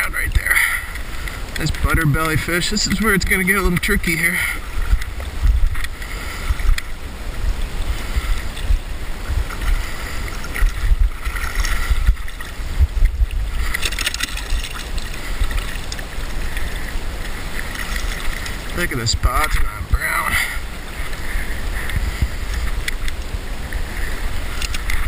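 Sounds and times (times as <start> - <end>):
river water flowing over stones: 0.0 - 25.0
wind buffeting microphone: 0.0 - 25.0.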